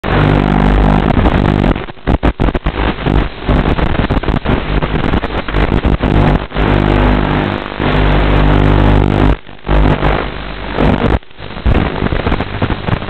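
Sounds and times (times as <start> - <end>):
interference crackling: 0.0 - 13.0
low electrical buzz: 0.0 - 13.0.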